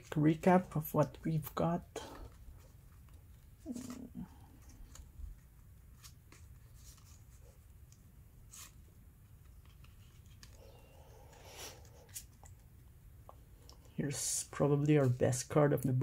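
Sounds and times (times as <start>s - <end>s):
trading cards rustling: 0.0s - 16.0s.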